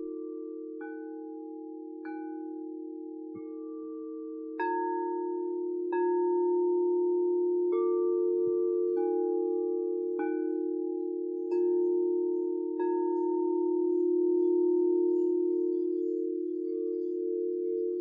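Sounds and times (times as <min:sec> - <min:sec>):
crystal singing bowls ringing: 0:00.0 - 0:18.0.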